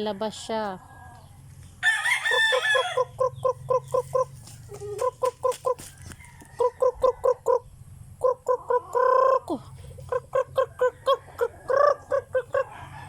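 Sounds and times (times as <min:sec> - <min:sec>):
chicken clucking: 0:00.4 - 0:13.0
chicken squawk: 0:01.8 - 0:13.0.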